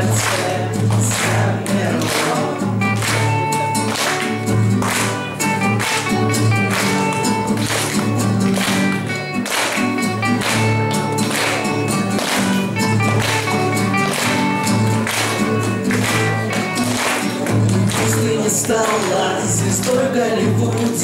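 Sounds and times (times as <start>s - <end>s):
guitar band instrumental: 0.0s - 21.0s.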